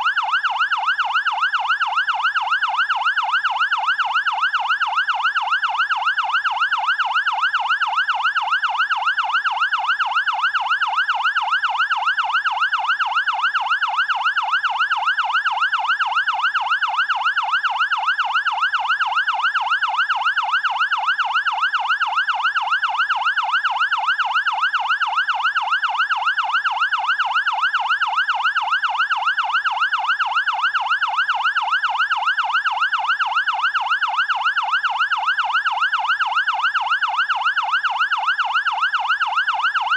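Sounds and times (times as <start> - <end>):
fire engine siren yelping: 0.0 - 39.9.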